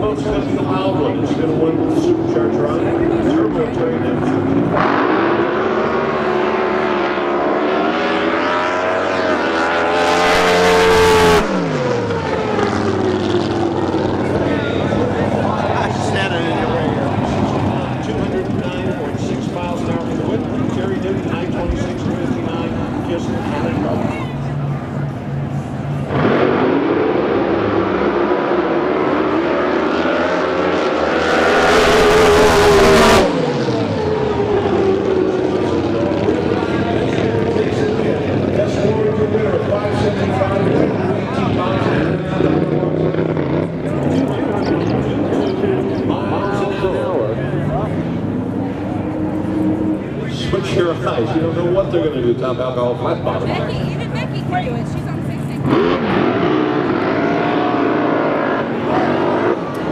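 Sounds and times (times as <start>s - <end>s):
racing boat engine at full throttle: 0.0s - 59.9s.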